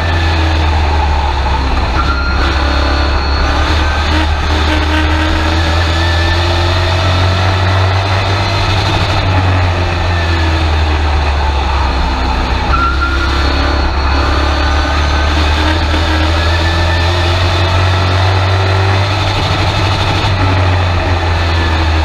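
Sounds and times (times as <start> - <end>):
truck engine running loud: 0.0 - 22.0.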